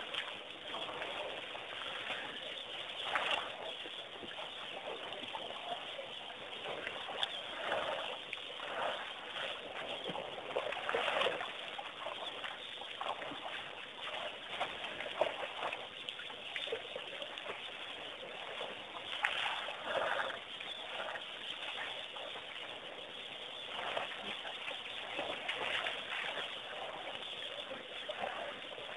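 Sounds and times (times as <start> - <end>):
water and mud splashing: 0.0 - 28.9.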